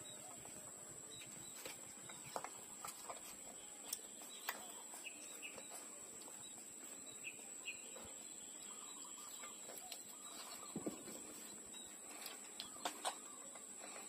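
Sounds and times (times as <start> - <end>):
faint high-pitched whine: 0.0 - 14.0
puppies chirping: 0.0 - 14.0.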